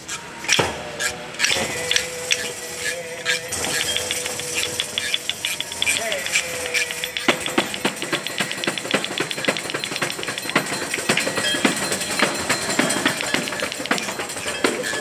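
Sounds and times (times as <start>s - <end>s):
tambourine played fast: 1.4s - 15.0s.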